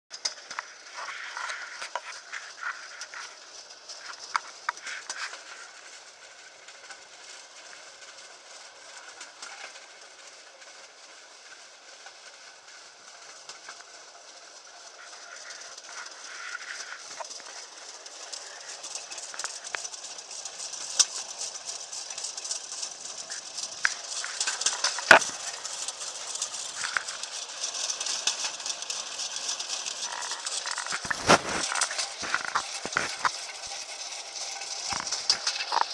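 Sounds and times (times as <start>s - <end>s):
rail bike wheels clattering: 0.1s - 35.9s.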